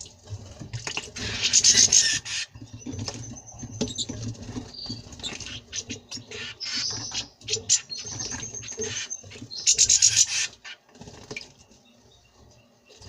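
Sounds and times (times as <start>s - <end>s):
birds tapping and scrabbling: 0.0s - 13.0s.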